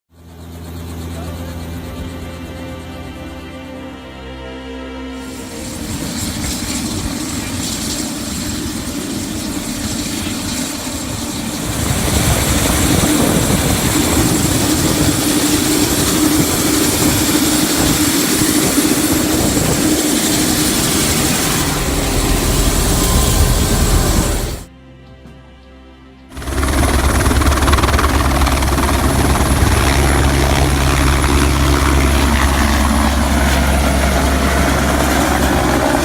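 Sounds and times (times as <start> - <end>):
helicopter running: 0.1 - 4.0, 5.2 - 24.7, 26.4 - 36.0.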